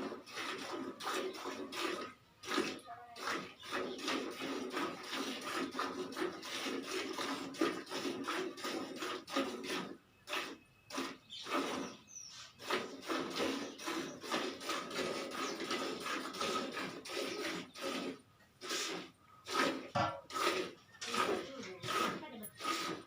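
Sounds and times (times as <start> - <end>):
milk squirting into a pail: 0.0 - 23.0.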